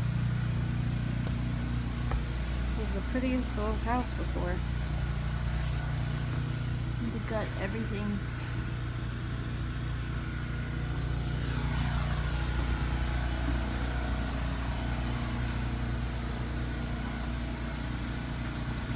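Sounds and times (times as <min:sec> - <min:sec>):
faint falling whine: 0:00.0 - 0:18.9
motor humming: 0:00.0 - 0:18.9.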